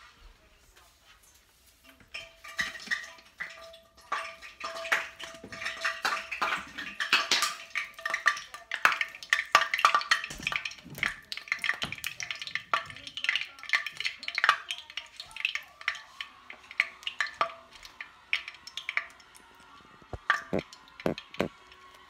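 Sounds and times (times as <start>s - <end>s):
hot oil crackling and popping: 0.6s - 22.0s.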